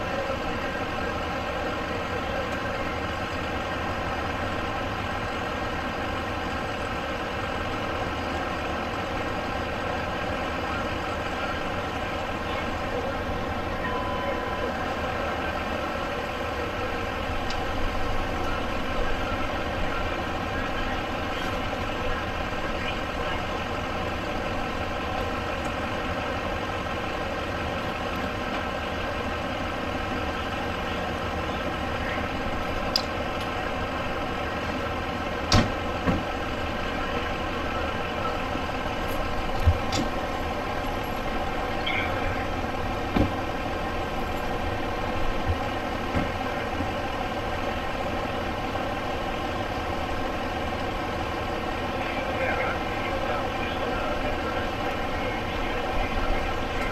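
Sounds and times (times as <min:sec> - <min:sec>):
engine idling: 0:00.0 - 0:56.9.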